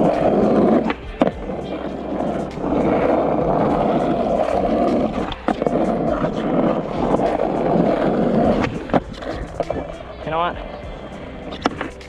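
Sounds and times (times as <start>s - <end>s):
skateboard wheels rolling on asphalt: 0.0s - 12.0s.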